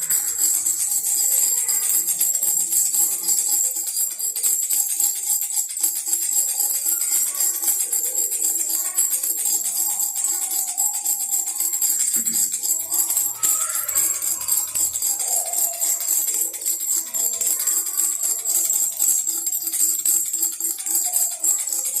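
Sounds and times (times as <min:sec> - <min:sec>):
baby rattle shaken: 0:00.0 - 0:22.0.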